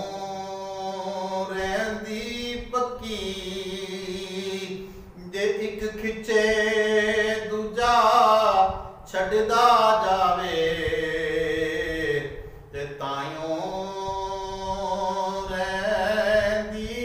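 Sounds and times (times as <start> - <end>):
man chanting in sung style: 0.0 - 17.0.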